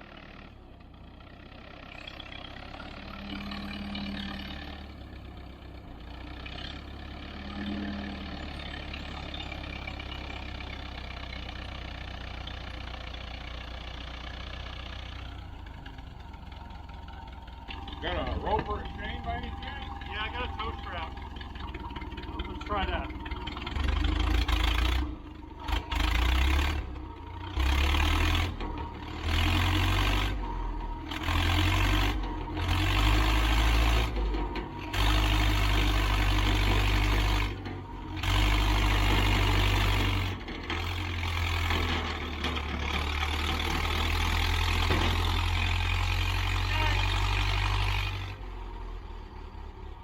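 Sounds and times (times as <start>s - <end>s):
pickup truck engine surging: 1.4s - 50.0s.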